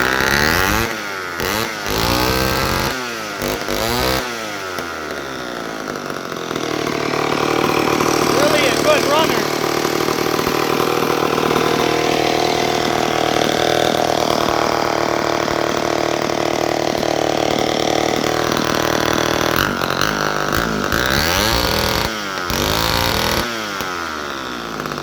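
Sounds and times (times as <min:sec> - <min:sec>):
chainsaw running and revving: 0:00.0 - 0:25.0.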